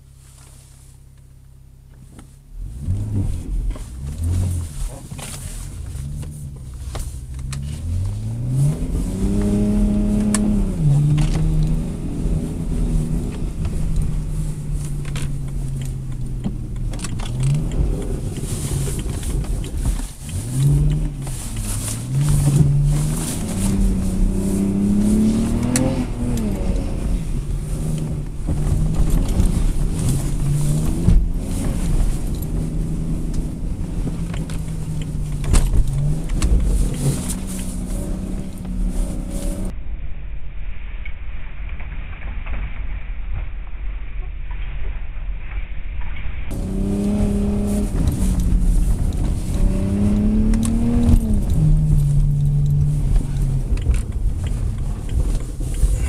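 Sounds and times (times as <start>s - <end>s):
car engine revving: 2.5s - 39.7s, 46.5s - 56.0s.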